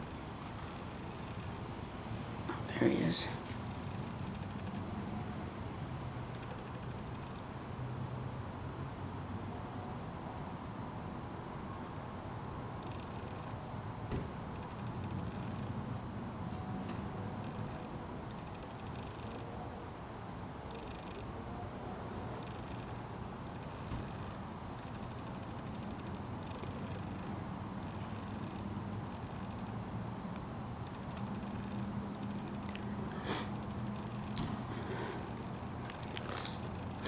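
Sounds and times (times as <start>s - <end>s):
high-pitched insect chorus: 0.0s - 37.0s
lower pulsing insect call: 0.0s - 37.0s.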